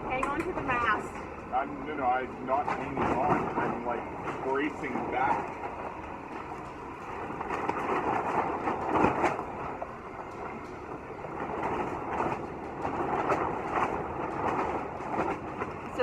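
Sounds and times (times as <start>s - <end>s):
strong wind buffeting: 0.0s - 16.0s.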